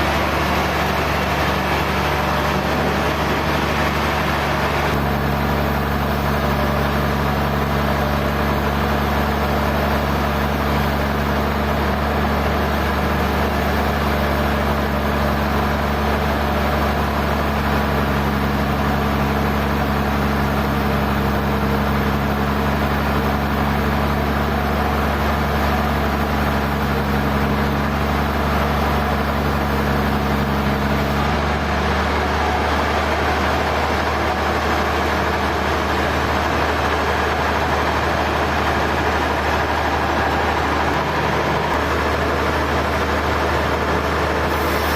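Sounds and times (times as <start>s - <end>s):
sawmill machinery humming: 0.0s - 44.9s.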